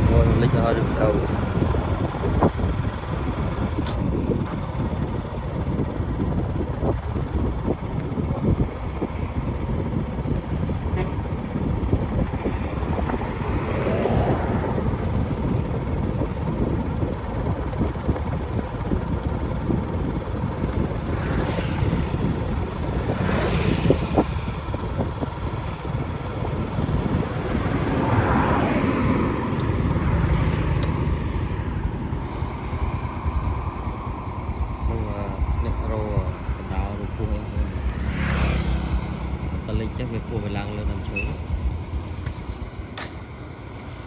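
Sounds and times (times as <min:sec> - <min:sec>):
outdoor rumble: 0:00.0 - 0:44.0
vehicles passing: 0:00.0 - 0:44.0
wind buffeting microphone: 0:00.0 - 0:44.0.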